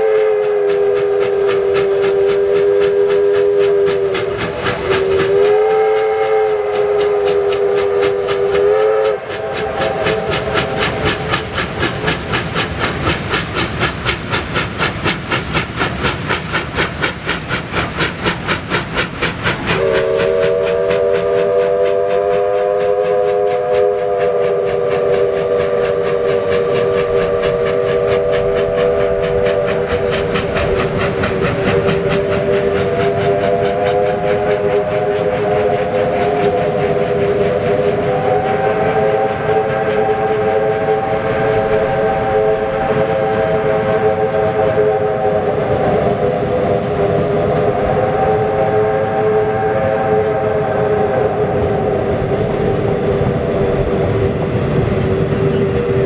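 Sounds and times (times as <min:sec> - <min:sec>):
steam locomotive whistle: 0:00.0 - 0:12.0, 0:19.2 - 0:56.0
steam locomotive exhaust beats: 0:00.0 - 0:56.0.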